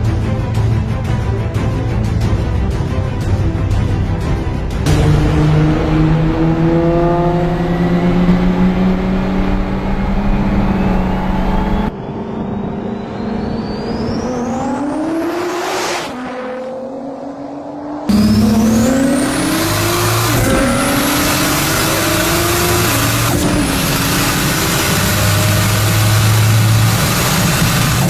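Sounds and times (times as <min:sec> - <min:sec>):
car engines accelerating hard: 0:04.8 - 0:28.0
high whine rising: 0:04.9 - 0:28.0.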